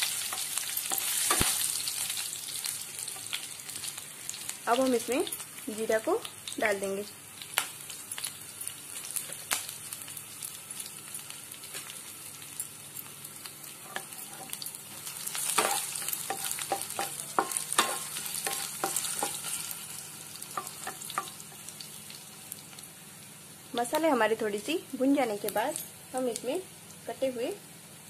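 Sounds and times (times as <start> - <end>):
spices sizzling in hot oil: 0.0 - 28.0.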